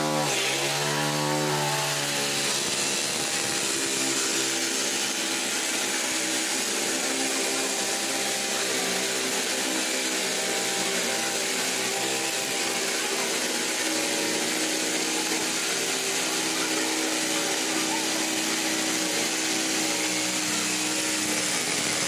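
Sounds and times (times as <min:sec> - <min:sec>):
electric jigsaw cutting board: 0:00.0 - 0:22.0.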